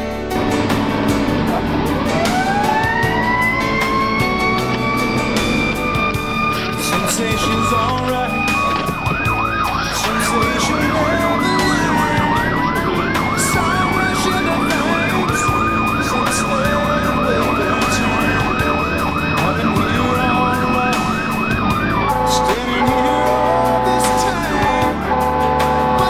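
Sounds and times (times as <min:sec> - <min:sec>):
truck engine and road noise: 0:00.0 - 0:26.0
steady siren tone: 0:00.4 - 0:26.0
electronic siren yelping: 0:00.5 - 0:26.0.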